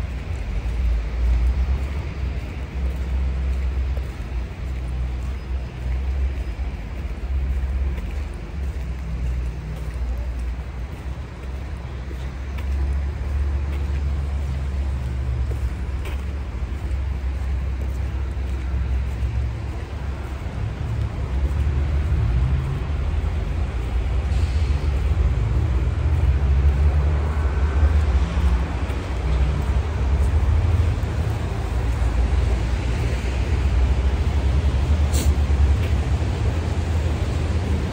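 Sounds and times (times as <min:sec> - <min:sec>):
cars passing: 0:00.0 - 0:37.9.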